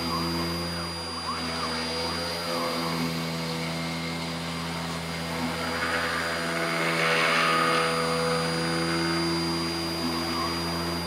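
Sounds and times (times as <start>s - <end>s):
router bit cutting wood: 0.0s - 11.0s
spindle motor hum and whine: 0.0s - 11.0s.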